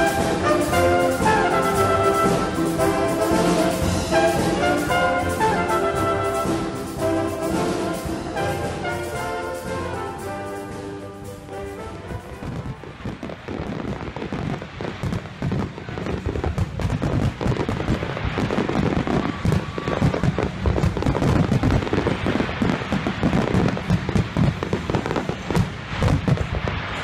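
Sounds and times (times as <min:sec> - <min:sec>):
firework bangs and crackle: 0:00.0 - 0:27.0.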